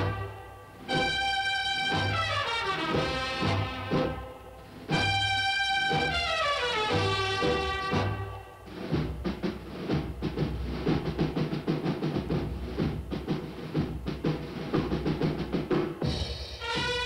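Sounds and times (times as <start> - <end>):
brass instruments: 0.0 - 17.0
drum break: 0.0 - 17.0.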